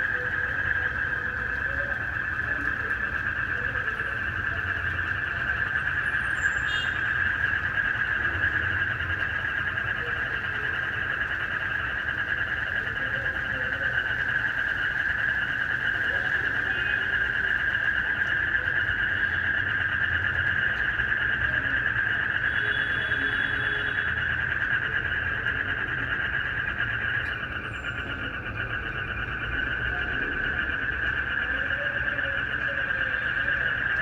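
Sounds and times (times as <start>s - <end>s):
frogs and crickets trilling: 0.0s - 34.0s.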